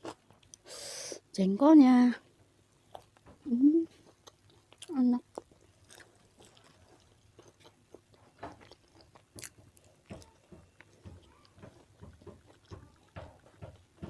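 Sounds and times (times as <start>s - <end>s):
mouth chewing and crunching: 0.0s - 0.7s, 2.7s - 14.0s.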